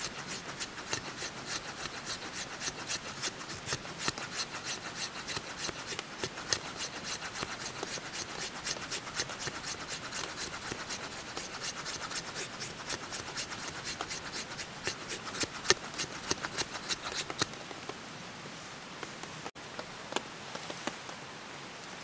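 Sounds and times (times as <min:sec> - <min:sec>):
knife shaving wood: 0:00.0 - 0:17.6.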